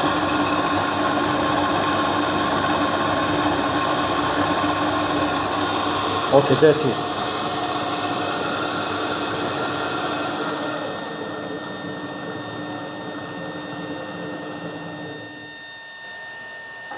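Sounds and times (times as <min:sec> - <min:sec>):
generator hum and whine: 0:00.0 - 0:16.9.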